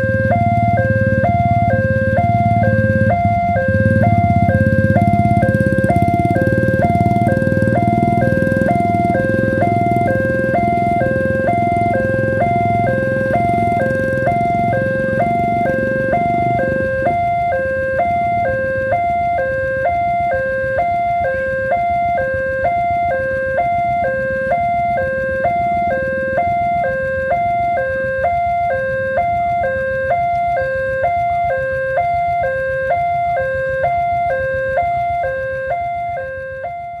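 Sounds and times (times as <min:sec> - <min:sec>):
two-tone electronic warning alarm: 0:00.0 - 0:37.0.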